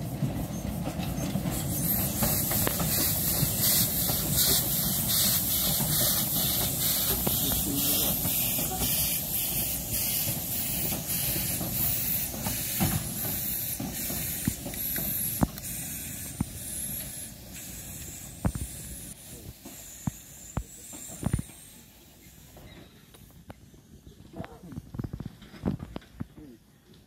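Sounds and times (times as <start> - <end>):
train wheels clicking on track: 0.0 - 23.9
steam locomotive hissing: 0.0 - 24.1.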